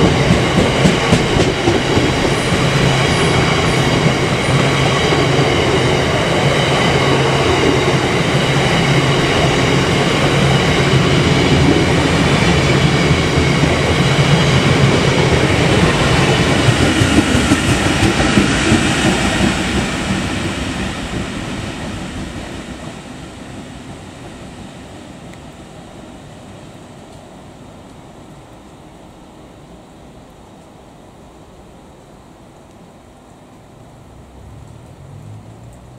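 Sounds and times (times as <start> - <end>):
freight train rolling past: 0.0 - 30.0
diesel locomotive passing: 0.0 - 30.1, 33.4 - 35.9.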